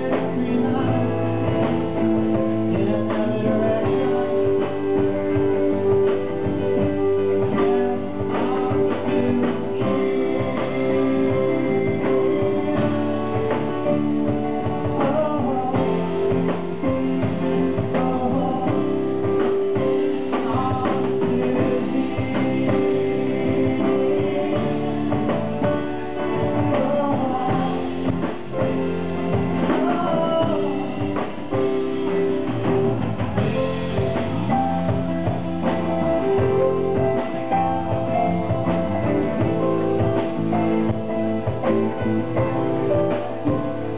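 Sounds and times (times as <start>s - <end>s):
live band playing blues: 0.0s - 43.9s.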